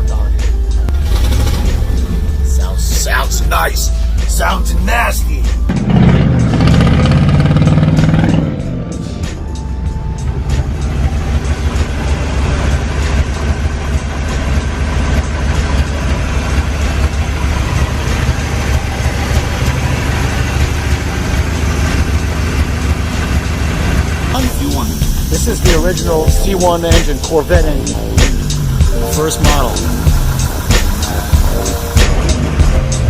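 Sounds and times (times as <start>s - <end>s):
engine low rumble: 0.0s - 33.0s.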